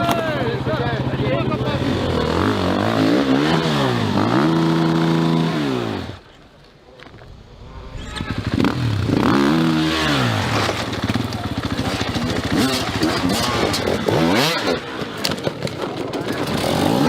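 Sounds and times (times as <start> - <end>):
dirt bike engine revving: 0.0 - 6.3, 7.5 - 17.0.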